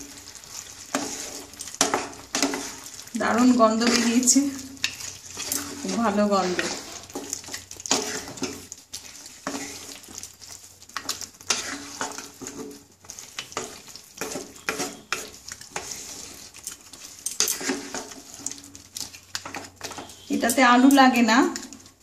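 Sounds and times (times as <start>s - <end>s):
curry sizzling: 0.0s - 22.0s
wooden spatula scraping a pan: 0.0s - 22.0s.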